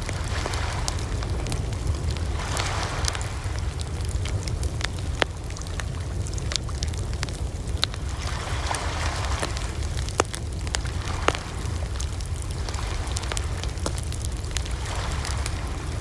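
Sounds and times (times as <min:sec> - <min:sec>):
steady low rumble: 0:00.0 - 0:16.0
wood fire crackling: 0:00.0 - 0:16.0.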